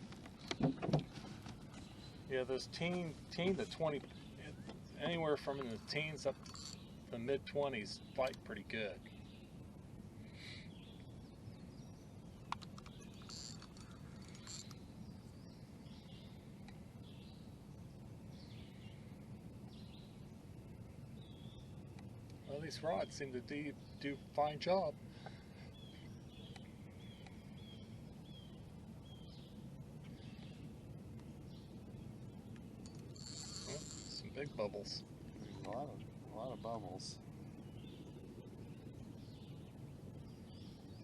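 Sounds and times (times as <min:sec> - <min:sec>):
faint low rumble: 0:00.0 - 0:41.0.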